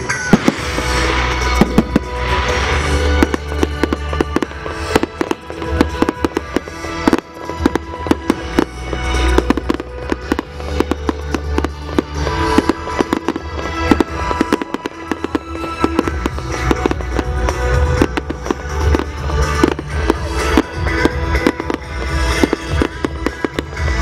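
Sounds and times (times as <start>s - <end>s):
fireworks banging and crackling: 0.0s - 24.0s
music with held notes: 0.0s - 24.0s.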